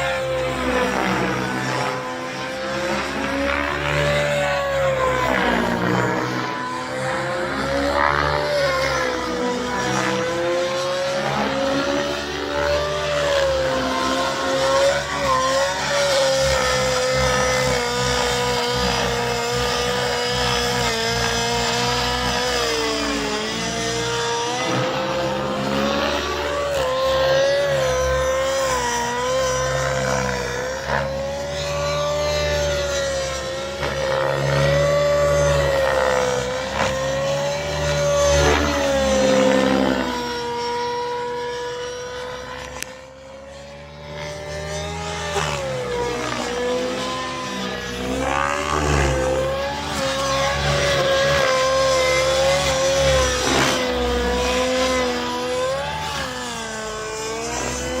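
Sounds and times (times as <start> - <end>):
rc helicopter engine whine: 0.0 - 58.0.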